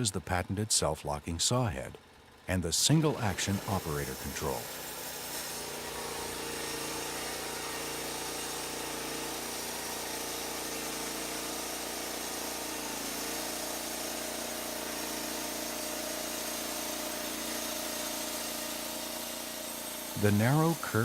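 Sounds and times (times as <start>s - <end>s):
sawmill engine running: 0.0s - 21.0s.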